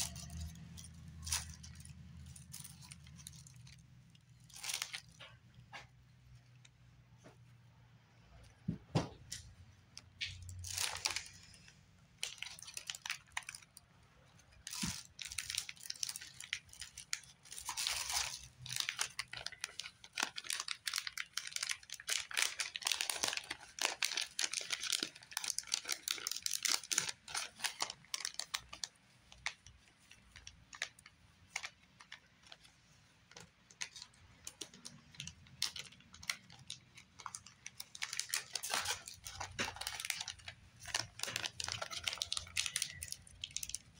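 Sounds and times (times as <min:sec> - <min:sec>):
plastic packaging crinkling: 0:00.0 - 0:06.8, 0:10.0 - 0:43.9.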